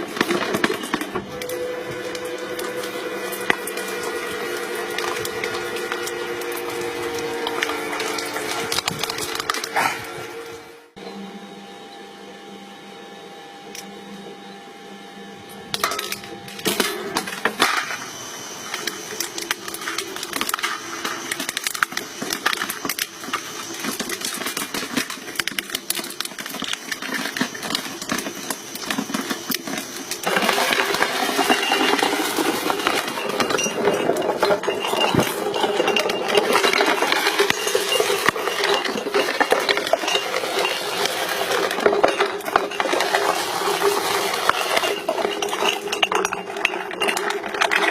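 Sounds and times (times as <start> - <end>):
hydraulic crushing machine humming: 0.0 - 47.9.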